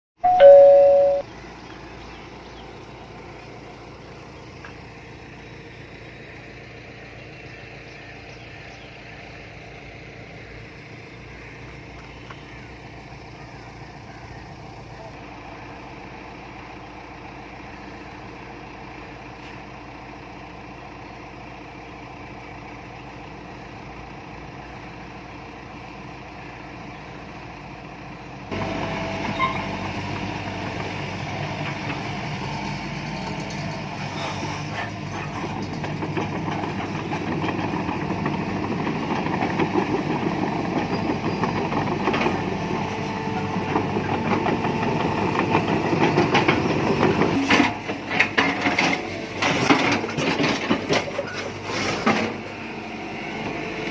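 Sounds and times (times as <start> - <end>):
diesel engine running: 0.2 - 53.9.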